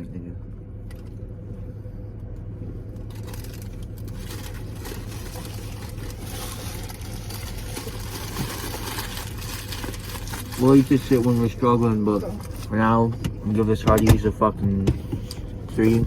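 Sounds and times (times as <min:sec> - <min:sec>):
car cabin engine hum: 0:00.0 - 0:16.0.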